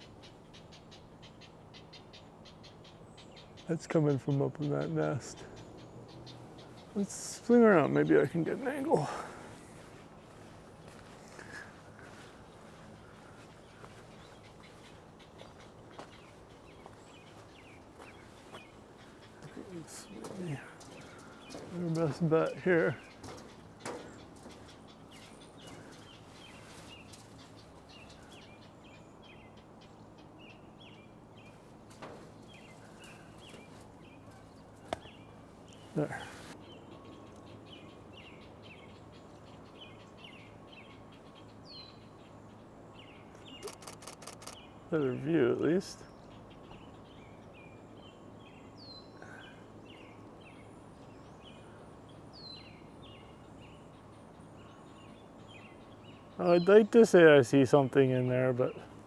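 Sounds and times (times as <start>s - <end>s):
birds chirping: 0.0s - 59.0s
low background hum: 0.0s - 59.0s.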